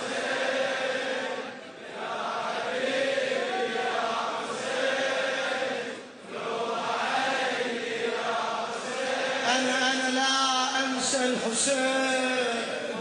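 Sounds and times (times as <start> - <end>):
crowd chanting: 0.0 - 11.9.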